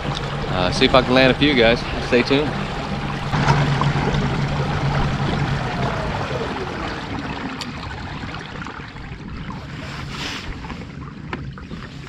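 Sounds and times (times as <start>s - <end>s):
steady low hum: 0.0s - 11.6s
water lapping along kayak hull: 0.0s - 12.0s.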